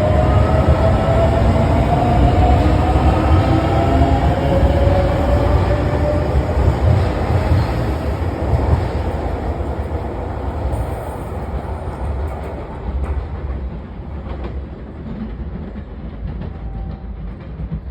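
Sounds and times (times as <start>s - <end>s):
electric train rumbling: 0.0s - 17.9s.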